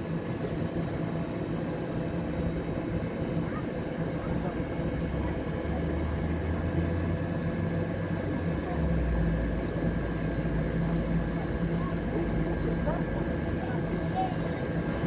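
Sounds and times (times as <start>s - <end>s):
train humming and rumbling: 0.0s - 15.0s.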